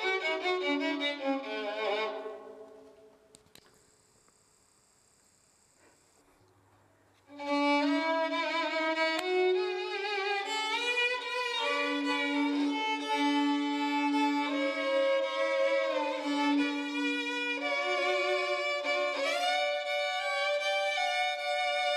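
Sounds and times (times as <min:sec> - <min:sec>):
violin melody: 0:00.0 - 0:03.0, 0:07.3 - 0:21.9.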